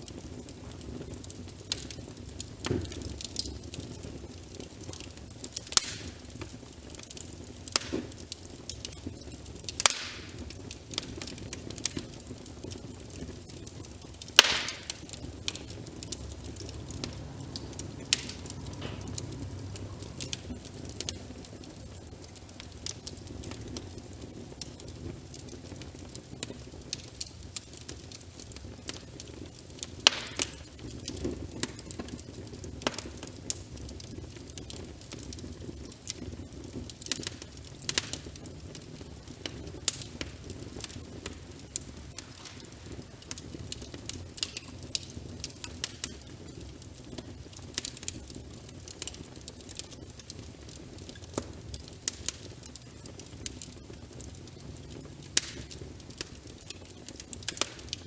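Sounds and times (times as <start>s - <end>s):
rain: 0.0s - 58.0s
wood fire crackling and popping: 0.0s - 58.0s.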